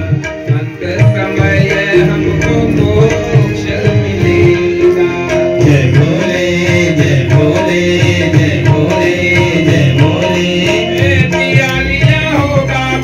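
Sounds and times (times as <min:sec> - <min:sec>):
hand drum rhythm: 0:00.0 - 0:13.0
person singing: 0:00.0 - 0:13.0.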